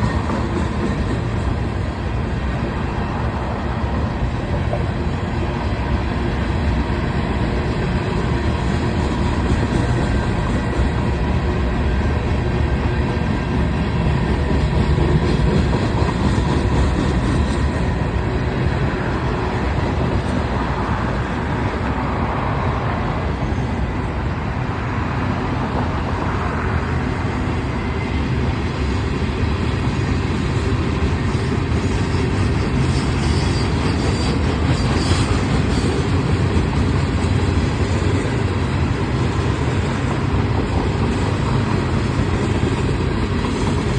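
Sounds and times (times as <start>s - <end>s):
freight train wheels on rails: 0.0s - 43.9s.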